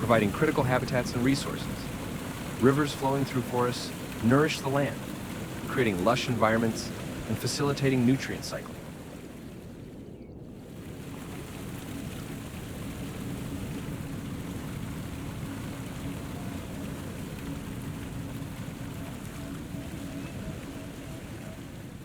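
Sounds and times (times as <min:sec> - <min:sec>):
river water rushing: 0:00.0 - 0:10.0, 0:10.7 - 0:22.0.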